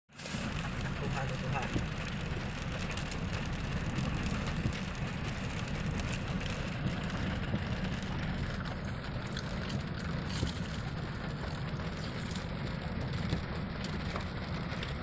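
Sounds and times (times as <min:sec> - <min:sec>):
road noise: 0:00.1 - 0:15.0
truck engine running: 0:00.2 - 0:15.0.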